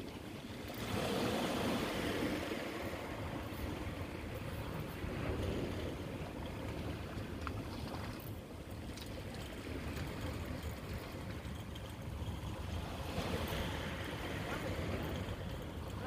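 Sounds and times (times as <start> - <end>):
waves washing against rocks: 0.0 - 16.0.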